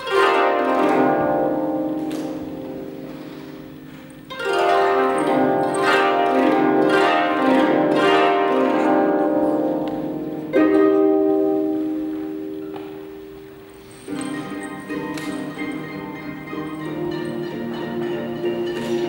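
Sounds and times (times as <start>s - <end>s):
koto ensemble playing: 0.0s - 19.0s.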